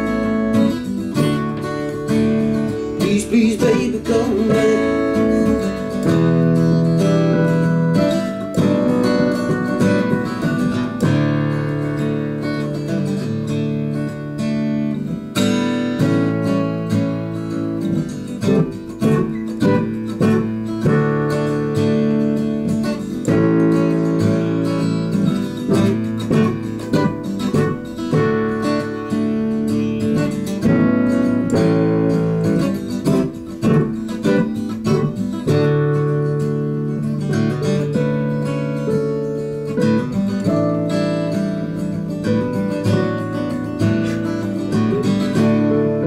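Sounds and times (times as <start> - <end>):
acoustic guitar strumming: 0.0 - 46.0
electronic keyboard chords: 0.0 - 46.0.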